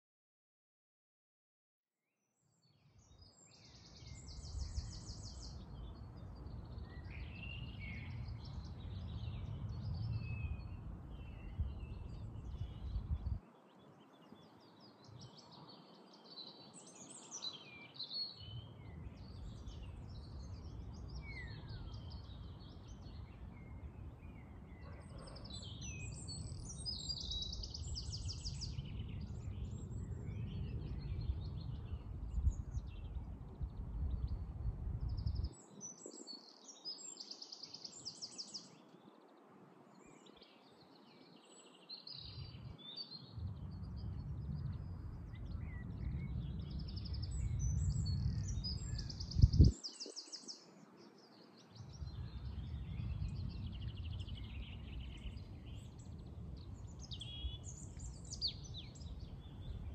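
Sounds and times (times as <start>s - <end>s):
songbirds singing and chirping: 2.5s - 59.9s.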